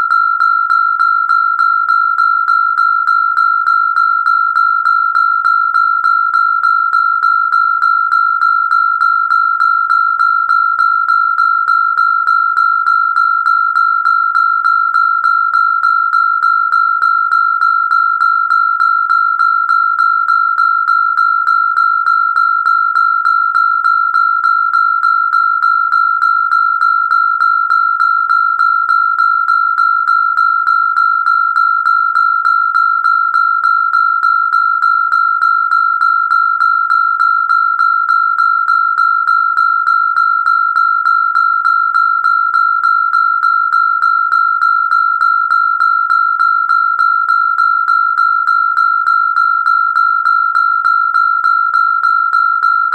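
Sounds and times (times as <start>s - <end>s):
electronic alarm tone: 0.0s - 52.9s.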